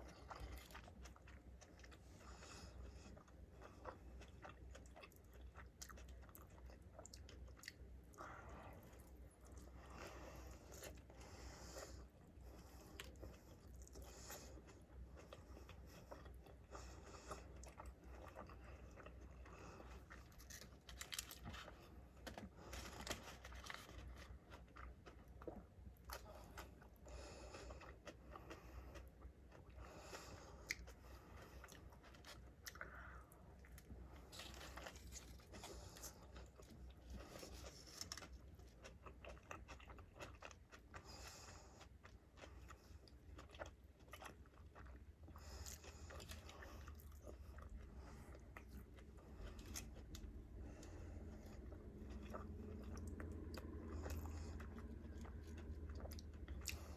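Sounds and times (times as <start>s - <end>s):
chewing and biting: 0.0s - 7.9s, 8.8s - 56.9s.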